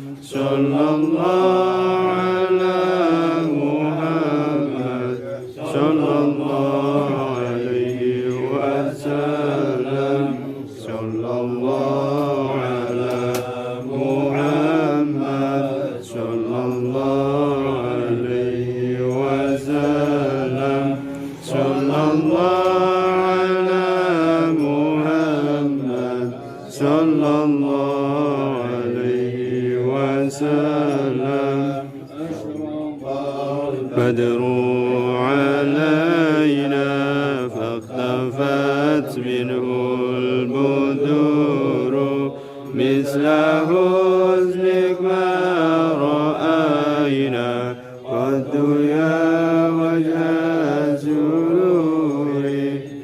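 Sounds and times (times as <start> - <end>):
voices chanting devotional verses: 0.0 - 53.0.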